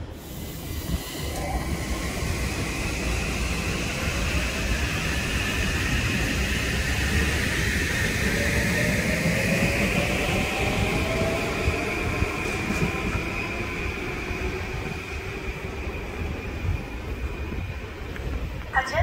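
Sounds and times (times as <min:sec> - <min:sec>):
train high whine: 0:00.0 - 0:19.0
train wheels rumbling on rails: 0:00.0 - 0:19.0.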